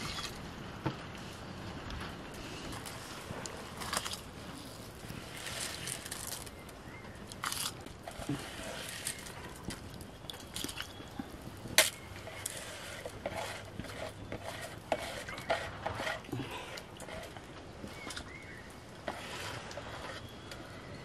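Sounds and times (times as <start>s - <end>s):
rice and water stirred by hand: 2.5s - 20.6s.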